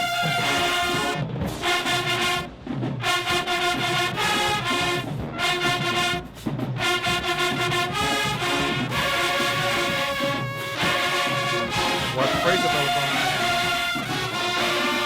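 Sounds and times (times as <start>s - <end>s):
brass section playing tune: 0.0s - 15.0s
marching band playing: 0.0s - 15.0s.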